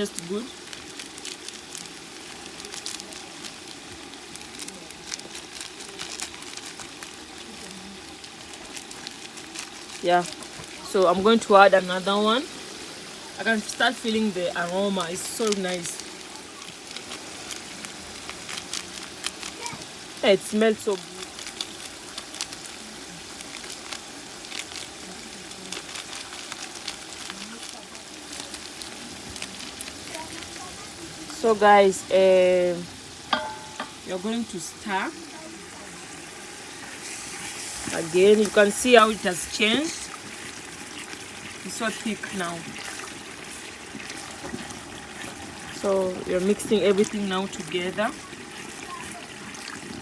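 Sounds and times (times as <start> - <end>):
small crackles and pops: 0.0 - 11.2, 12.7 - 31.8, 33.0 - 50.0
sauce sizzling in a pot: 0.0 - 50.0.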